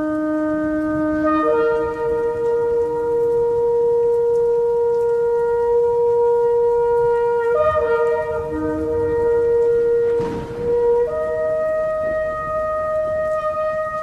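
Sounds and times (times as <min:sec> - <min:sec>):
ram's horn blast: 0:00.6 - 0:14.0.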